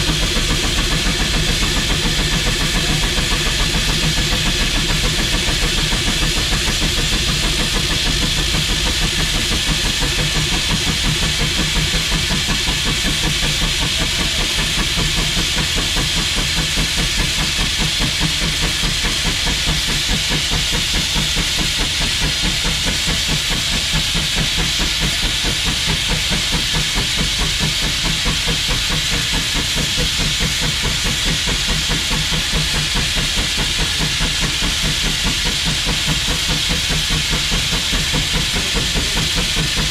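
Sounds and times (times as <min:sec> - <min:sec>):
steam engine exhaust beats: 0:00.0 - 0:39.9
steam hissing: 0:00.0 - 0:39.9.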